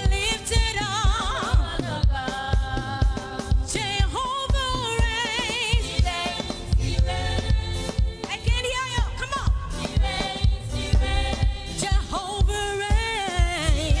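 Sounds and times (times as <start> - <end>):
band with fast drum beat: 0.0 - 14.0
woman singing with vibrato: 0.0 - 14.0.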